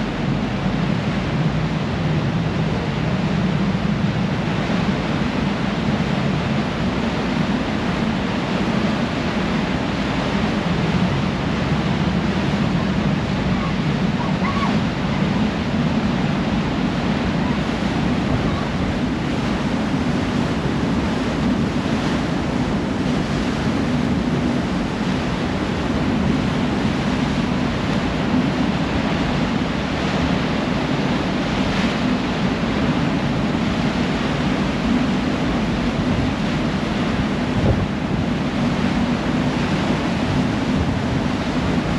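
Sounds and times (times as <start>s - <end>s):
churning wake water: 0.0s - 41.9s
wind buffeting microphone: 0.0s - 41.9s.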